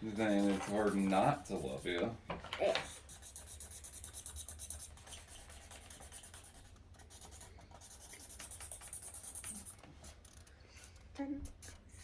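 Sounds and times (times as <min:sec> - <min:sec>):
markers scratching on paper: 0:00.0 - 0:11.9.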